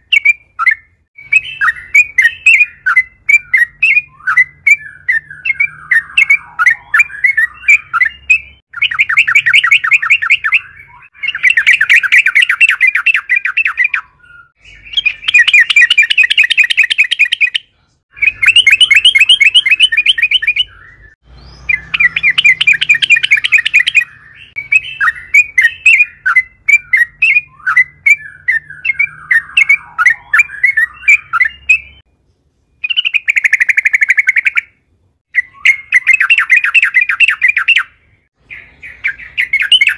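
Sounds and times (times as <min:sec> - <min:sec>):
bird chirping warbled phrases: 0:00.0 - 0:39.9
bird singing rolling trills: 0:00.0 - 0:39.9.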